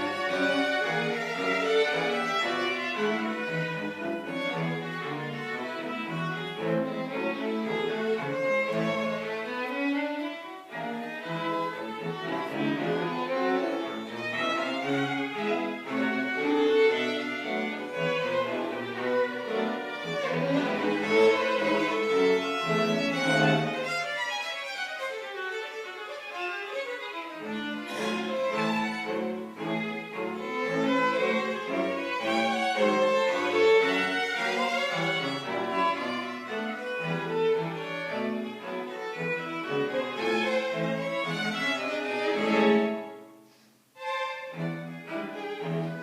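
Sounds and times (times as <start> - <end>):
low cello notes: 0.0 - 43.3, 44.0 - 46.0
string quartet playing: 0.0 - 46.0.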